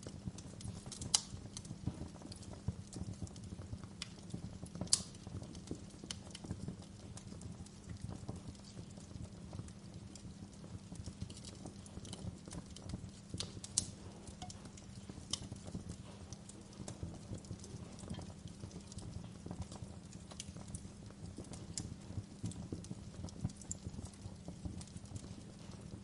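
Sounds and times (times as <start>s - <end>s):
fireplace fire crackling and popping: 0.0s - 26.0s
low rumble of flames: 0.0s - 26.0s.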